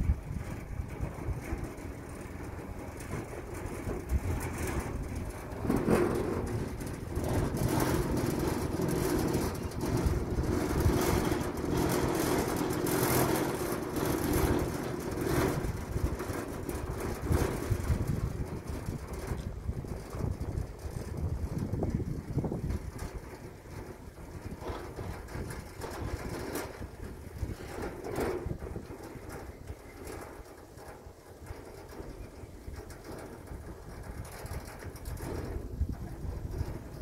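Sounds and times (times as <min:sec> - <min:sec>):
low mechanical rumble: 0:00.0 - 0:37.0
wind buffeting microphone: 0:00.0 - 0:37.0.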